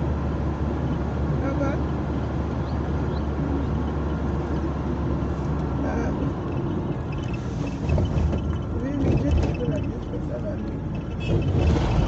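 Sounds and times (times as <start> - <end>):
car interior road hum: 0.0 - 12.0.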